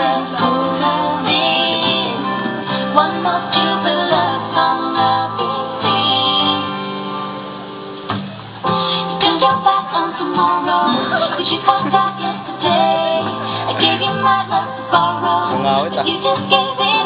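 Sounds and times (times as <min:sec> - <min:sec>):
instrumental pop music with guitar: 0:00.0 - 0:17.0.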